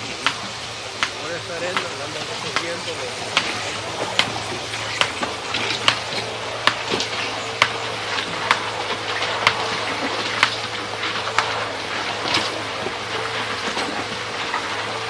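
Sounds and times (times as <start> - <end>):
diesel engine hum: 0.0 - 15.0.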